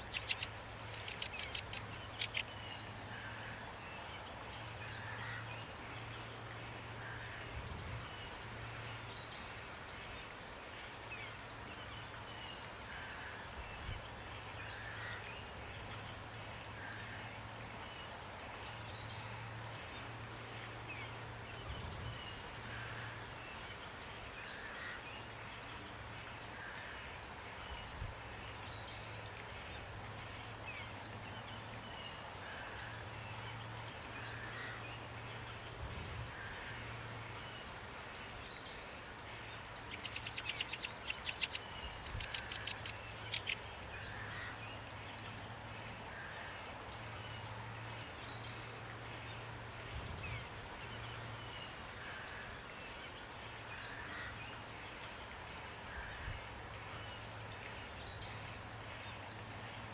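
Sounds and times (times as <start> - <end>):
songbirds chirping and trilling: 0.0 - 59.9
steady rain: 0.0 - 59.9.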